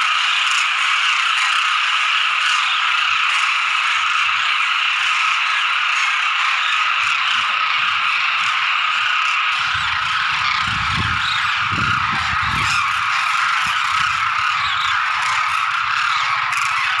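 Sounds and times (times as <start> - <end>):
cranes calling in flight: 0.0 - 17.0.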